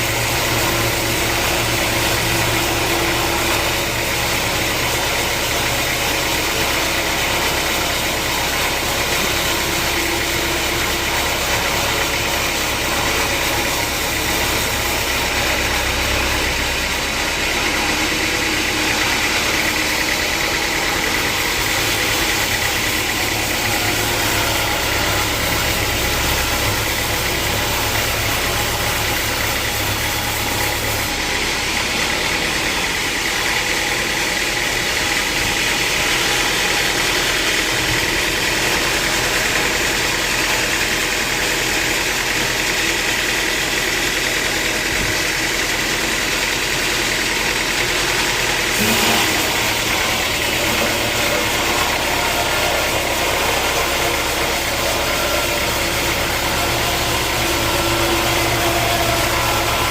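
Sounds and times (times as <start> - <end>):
sawmill machinery droning: 0.0 - 59.9.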